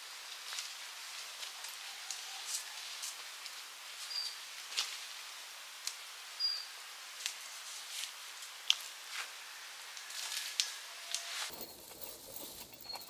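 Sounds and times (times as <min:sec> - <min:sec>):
steady hiss: 0:00.0 - 0:12.8.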